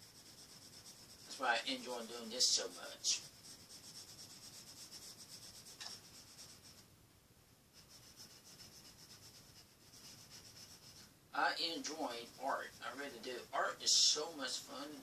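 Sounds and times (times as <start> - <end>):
pencil scratching on paper: 0.0 - 6.9, 7.8 - 15.0.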